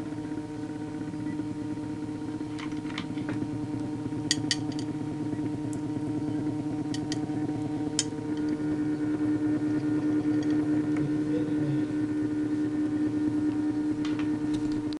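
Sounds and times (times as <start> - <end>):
pump motor humming: 0.0 - 15.0.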